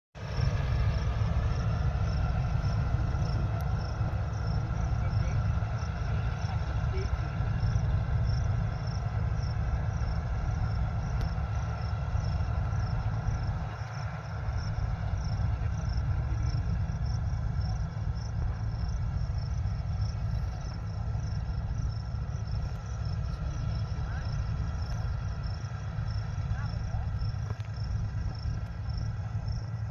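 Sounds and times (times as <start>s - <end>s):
combine harvester engine rumble: 0.2s - 29.9s.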